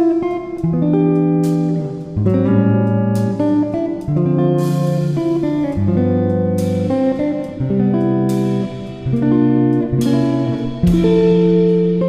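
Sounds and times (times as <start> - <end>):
guitar background music: 0.0 - 12.0
strummed guitar chords: 0.0 - 12.0.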